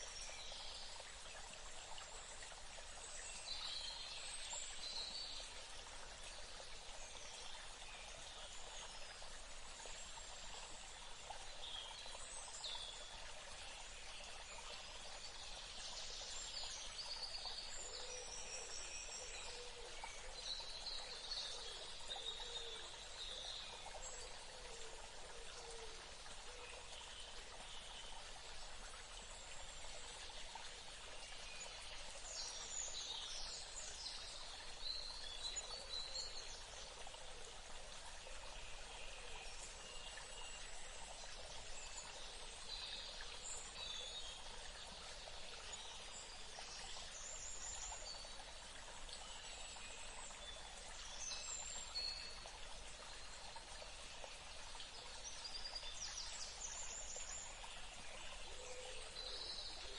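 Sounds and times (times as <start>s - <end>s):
running water: 0.0s - 59.9s.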